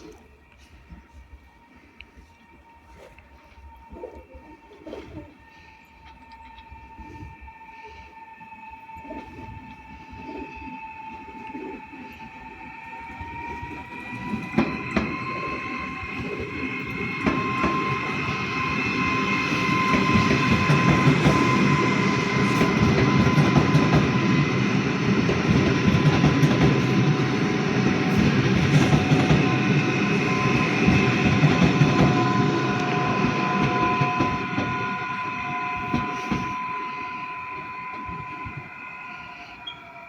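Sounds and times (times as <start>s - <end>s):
steady high whine: 0.0s - 40.0s
wheels clicking over rail joints: 5.4s - 40.0s.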